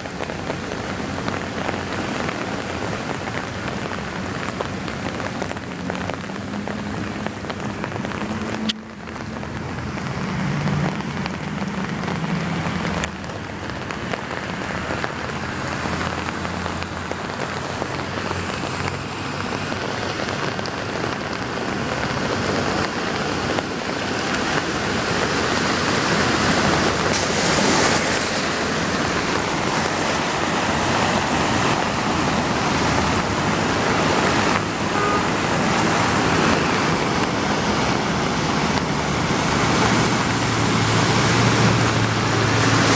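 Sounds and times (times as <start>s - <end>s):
heavy rain on flooded street: 0.0s - 42.9s
low engine hum: 3.7s - 42.9s.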